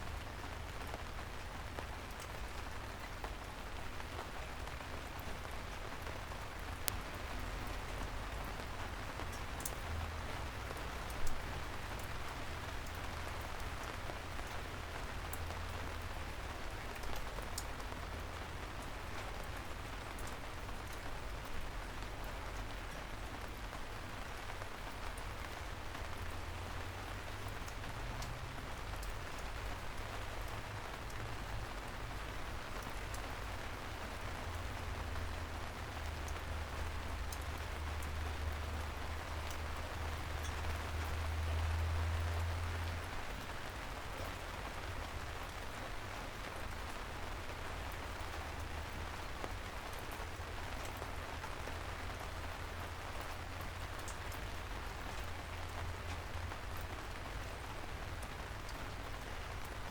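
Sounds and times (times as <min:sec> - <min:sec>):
rain on streets: 0:00.0 - 0:59.9
raindrops ticking: 0:00.0 - 0:59.9.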